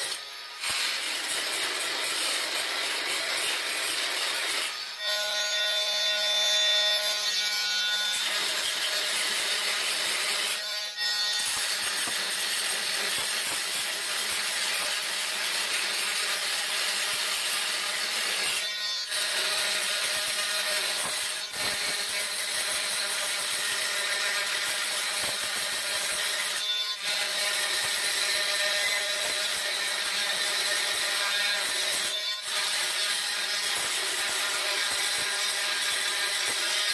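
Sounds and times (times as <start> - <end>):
multi-tool grinding grout: 0.0 - 36.9.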